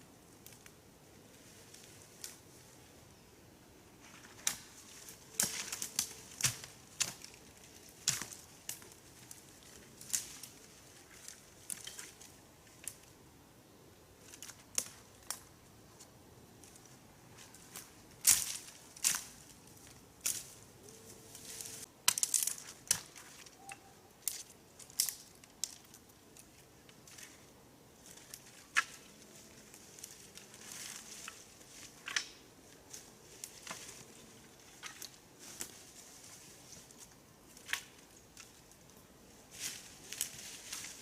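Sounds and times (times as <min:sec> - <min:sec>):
dry forest litter crunching: 0:04.0 - 0:13.1, 0:16.6 - 0:41.0.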